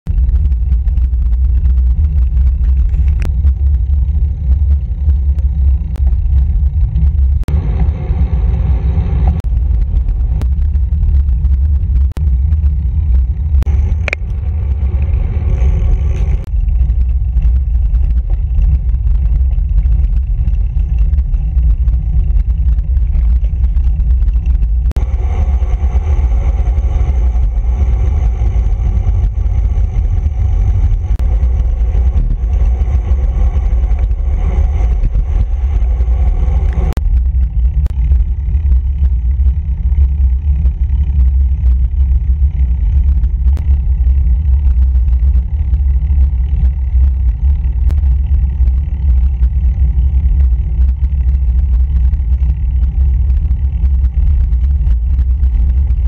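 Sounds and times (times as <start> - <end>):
wind buffeting microphone: 0.1 - 56.0.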